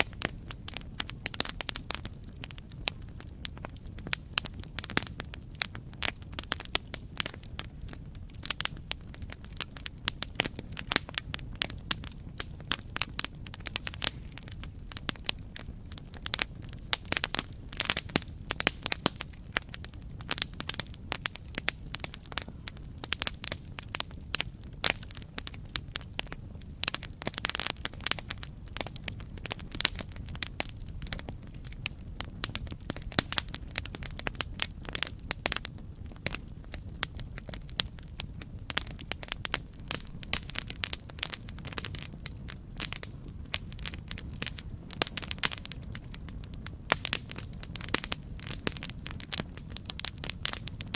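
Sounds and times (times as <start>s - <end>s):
campfire crackling and popping: 0.0s - 50.9s
low rumble of flames: 0.0s - 50.9s.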